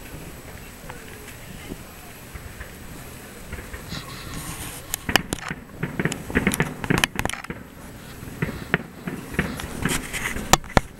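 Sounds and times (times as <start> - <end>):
fireworks bursting: 0.0 - 10.9.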